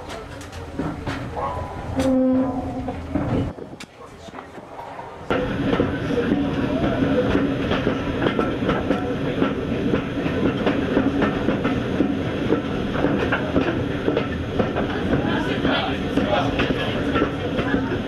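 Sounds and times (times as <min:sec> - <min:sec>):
train wheels rumbling on track: 0:00.0 - 0:18.0
wheels clicking over rail joints: 0:00.0 - 0:18.0.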